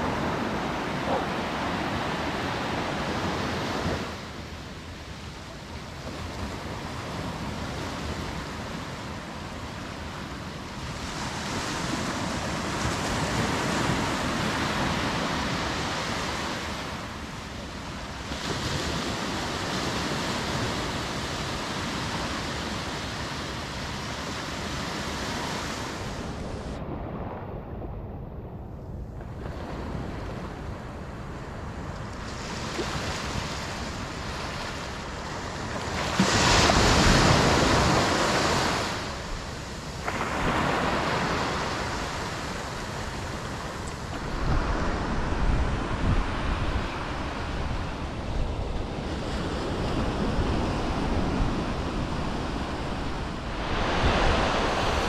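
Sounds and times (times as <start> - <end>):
small waves breaking on beach: 0.0 - 26.8, 29.3 - 55.0
wind on microphone: 0.0 - 55.0.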